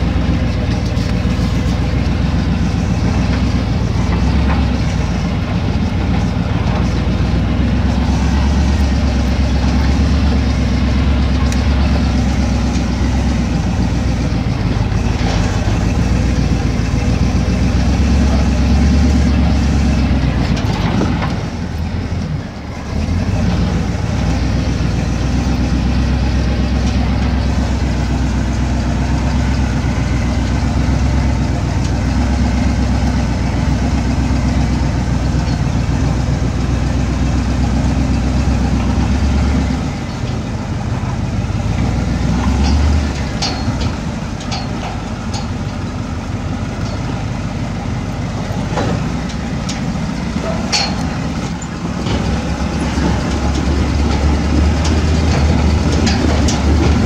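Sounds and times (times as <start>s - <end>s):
off-road vehicle engine droning: 0.0s - 57.0s
rumble from rough dirt track: 0.0s - 57.0s.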